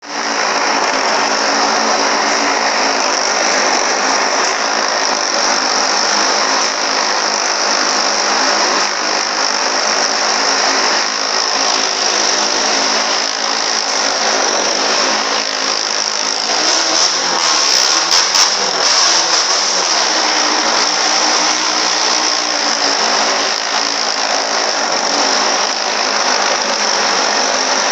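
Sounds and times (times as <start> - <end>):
motorcycle engine running loud: 0.0 - 27.9.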